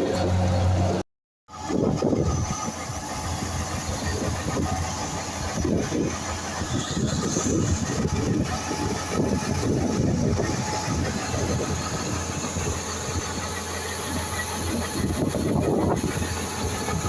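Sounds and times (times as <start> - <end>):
harvesting machinery rumbling: 0.0 - 1.0, 1.7 - 17.0.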